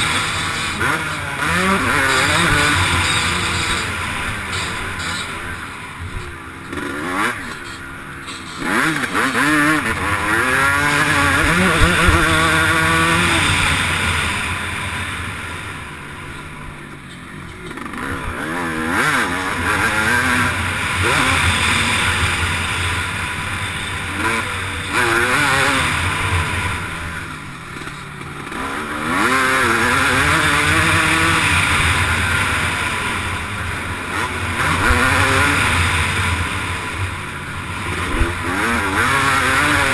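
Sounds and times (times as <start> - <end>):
constant rushing noise: 0.0 - 39.9
motocross bike engine revving: 0.0 - 39.9.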